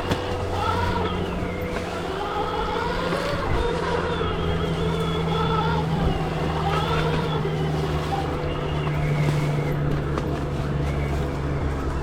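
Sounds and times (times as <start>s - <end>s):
low drivetrain rumble: 0.0s - 12.0s.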